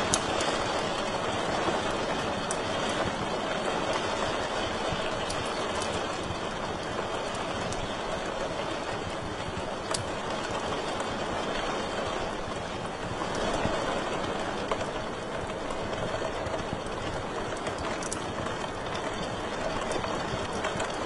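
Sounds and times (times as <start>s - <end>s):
fire crackles: 0.0s - 21.0s.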